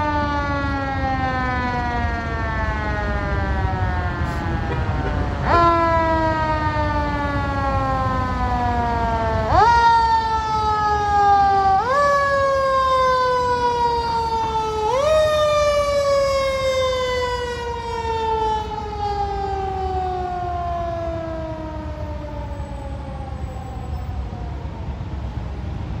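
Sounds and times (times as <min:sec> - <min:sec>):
fire truck siren wailing: 0:00.0 - 0:26.0
low traffic rumble: 0:00.0 - 0:26.0.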